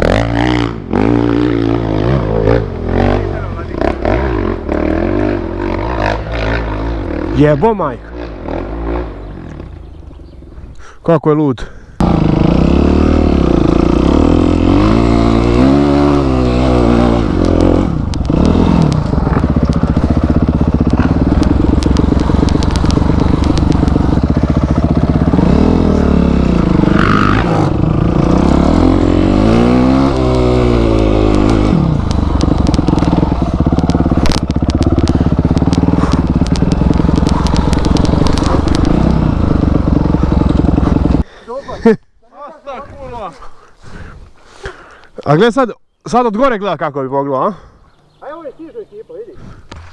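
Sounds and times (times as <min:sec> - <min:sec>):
motorcycle engine revving: 0:00.0 - 0:10.8, 0:12.0 - 0:41.3.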